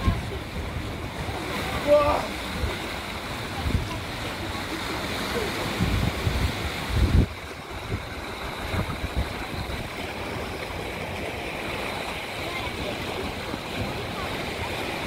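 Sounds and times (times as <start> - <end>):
sea waves breaking on rocks: 0.0 - 15.0
wind buffeting microphone: 0.0 - 15.0.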